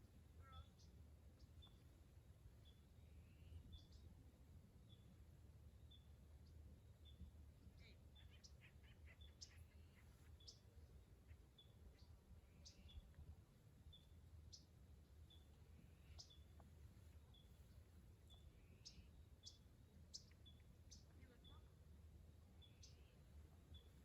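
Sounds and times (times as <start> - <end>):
faint high bird chirps: 0.0 - 2.0, 2.6 - 13.2, 13.8 - 24.0.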